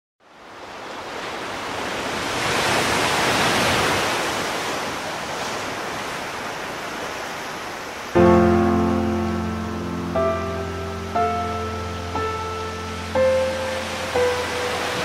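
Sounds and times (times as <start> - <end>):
sea waves washing: 0.6 - 15.0.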